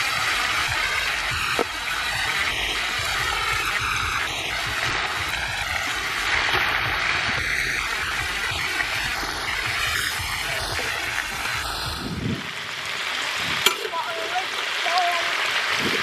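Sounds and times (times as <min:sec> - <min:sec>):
frogs sizzling in a wok: 0:00.0 - 0:16.0.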